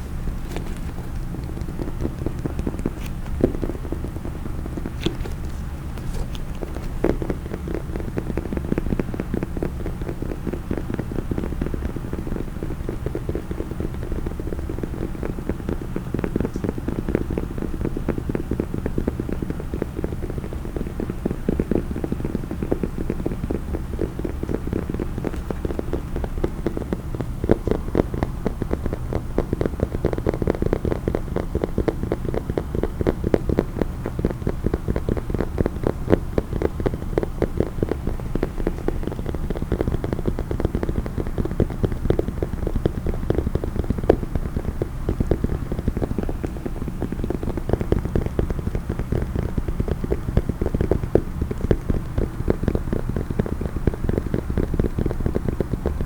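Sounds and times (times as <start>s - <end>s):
fast tapping and scratching on case: 0.0s - 56.0s.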